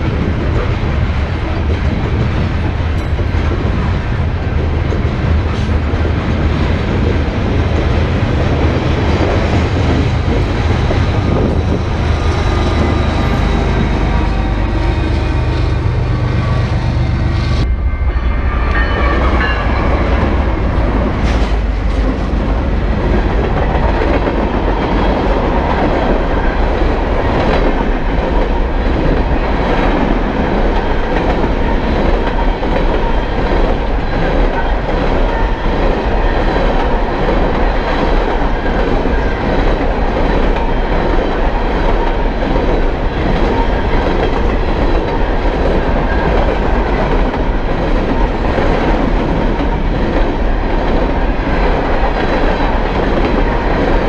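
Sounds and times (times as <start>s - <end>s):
train wheels clickety-clack: 0.0s - 14.0s, 18.7s - 54.0s
deep train rumble: 0.0s - 54.0s.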